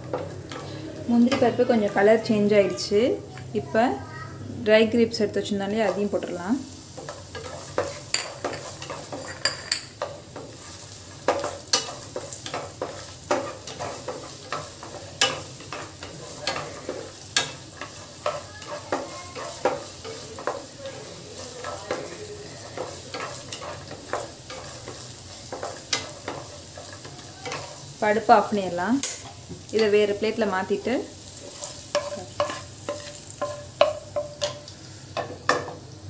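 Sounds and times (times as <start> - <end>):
nuts sizzling in ghee: 0.0 - 36.0
wooden spatula scraping a pan: 5.8 - 35.4.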